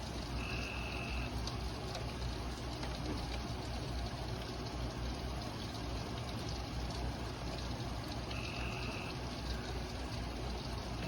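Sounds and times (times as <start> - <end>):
rain hissing: 0.0 - 5.2, 6.7 - 11.0.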